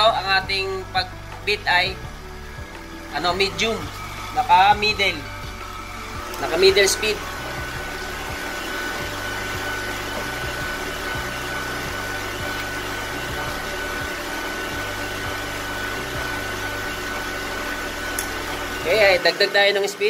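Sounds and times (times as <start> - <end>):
stand mixer motor whining: 0.0 - 20.0
whisk beating in steel bowl: 0.0 - 20.0.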